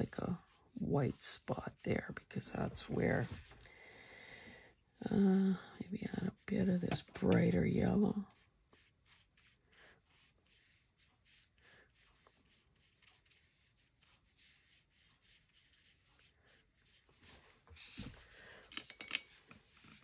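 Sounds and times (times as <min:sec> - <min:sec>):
brush strokes on paper: 0:00.0 - 0:03.6, 0:06.0 - 0:18.7, 0:19.3 - 0:20.0.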